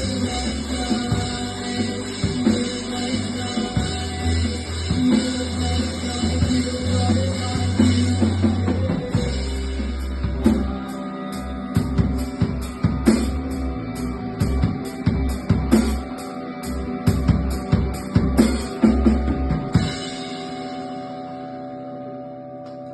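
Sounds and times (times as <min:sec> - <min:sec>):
rock band playing: 0:00.0 - 0:22.9.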